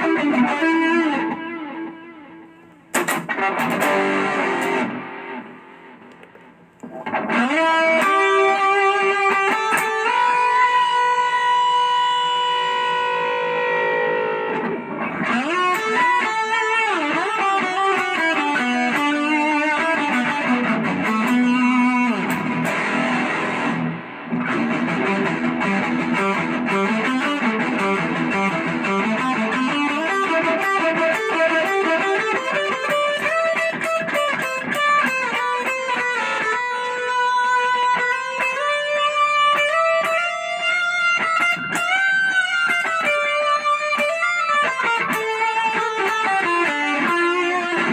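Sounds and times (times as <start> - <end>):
overdriven electric guitar: 0.0 - 47.9.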